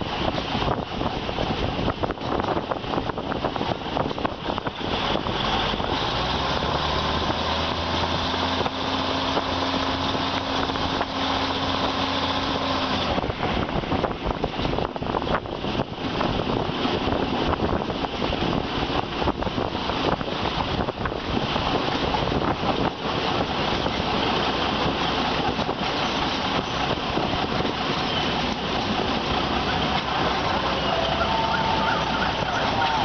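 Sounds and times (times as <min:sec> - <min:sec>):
train wheels rumbling on track: 0:00.0 - 0:33.0
wind rushing over microphone: 0:00.0 - 0:33.0.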